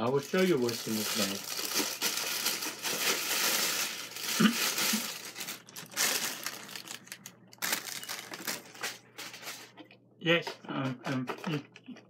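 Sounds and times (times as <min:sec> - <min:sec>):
plastic bag crinkling and rustling: 0:00.1 - 0:09.9.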